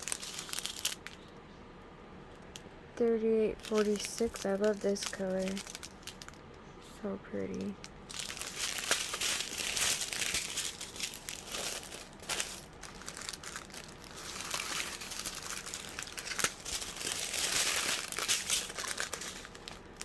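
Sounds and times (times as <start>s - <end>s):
plastic bags crinkling: 0.0s - 1.3s, 2.4s - 6.5s, 7.4s - 20.0s.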